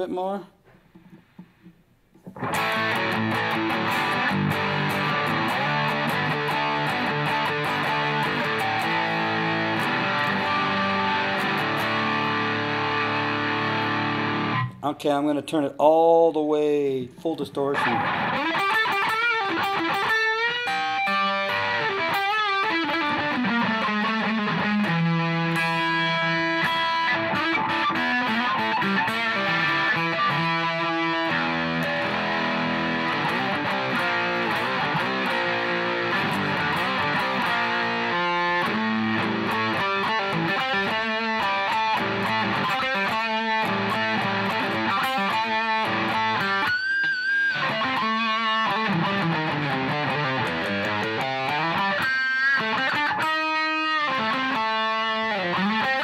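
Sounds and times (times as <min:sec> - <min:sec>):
distorted electric guitar: 0:00.9 - 0:14.9, 0:17.7 - 0:56.0.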